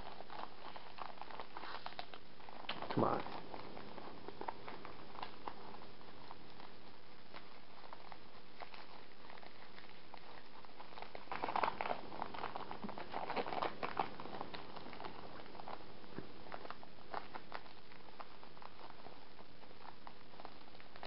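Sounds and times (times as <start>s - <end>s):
faint steady hiss: 0.0s - 21.0s
foil wrapper crinkling and tearing: 0.0s - 21.0s.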